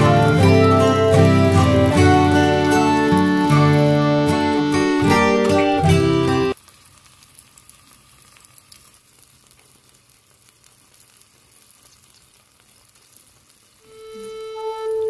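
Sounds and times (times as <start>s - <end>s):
curry sizzling and bubbling: 0.0s - 15.0s
fire crackling: 0.0s - 15.0s.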